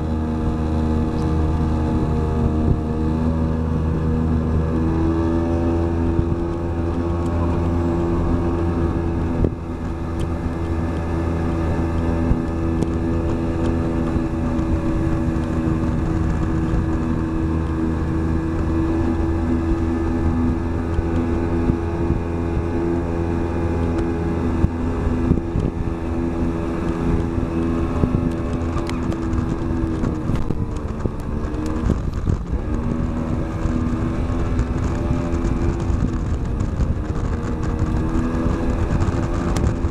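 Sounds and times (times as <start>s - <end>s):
outboard motor droning: 0.0s - 39.9s
rush of boat wake: 0.0s - 39.9s
wind on microphone: 0.0s - 39.9s.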